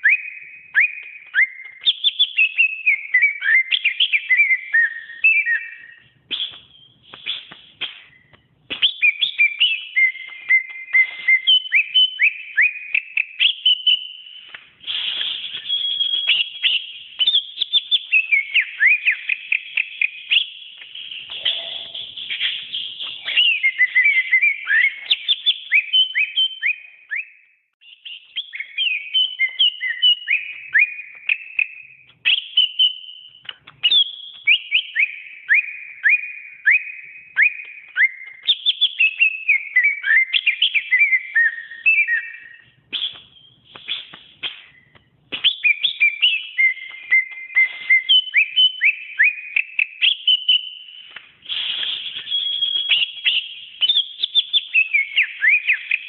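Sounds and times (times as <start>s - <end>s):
bird singing whistled trills: 0.0s - 56.0s.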